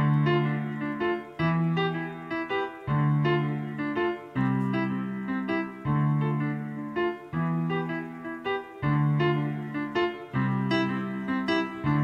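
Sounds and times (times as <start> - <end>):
keyboard music chords: 0.0 - 12.0.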